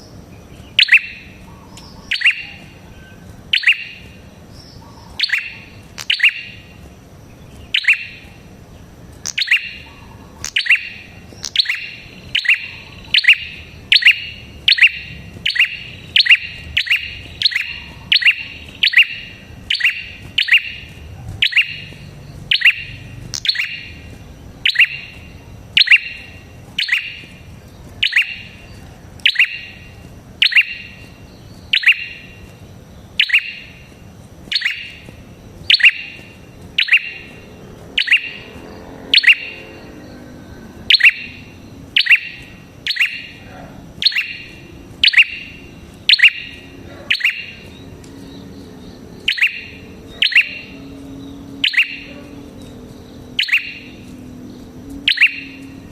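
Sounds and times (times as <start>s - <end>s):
bird chirping: 0.0s - 55.9s.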